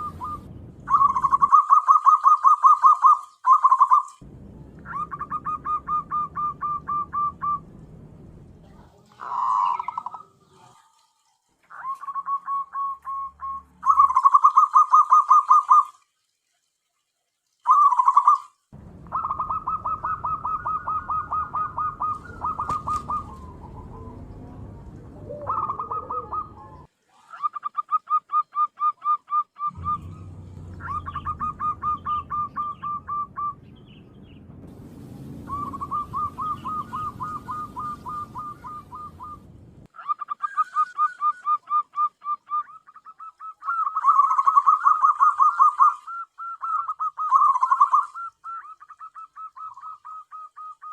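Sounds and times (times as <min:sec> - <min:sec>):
dove cooing: 0:00.0 - 0:04.2, 0:04.8 - 0:07.7, 0:09.0 - 0:11.0, 0:11.7 - 0:15.9, 0:19.1 - 0:33.7, 0:35.4 - 0:50.9.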